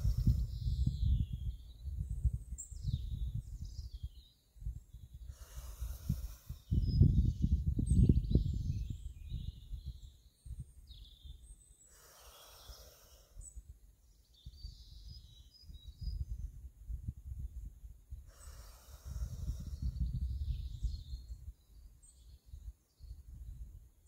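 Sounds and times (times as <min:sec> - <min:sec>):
wind buffeting microphone: 0:00.0 - 0:11.5, 0:12.7 - 0:24.0
birds chirping faintly: 0:00.0 - 0:16.8, 0:18.0 - 0:24.0.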